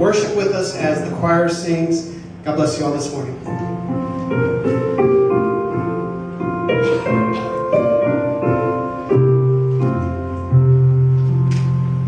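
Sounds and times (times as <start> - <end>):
piano playing sustained chords: 0.0 - 12.0.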